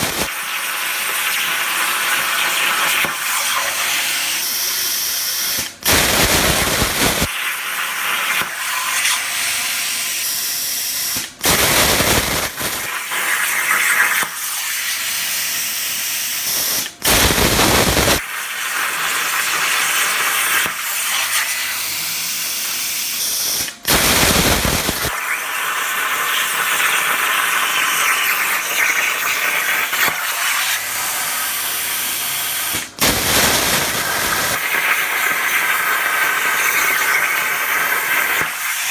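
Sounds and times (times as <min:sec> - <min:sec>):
plasma cutter torch hissing: 0:00.0 - 0:38.9.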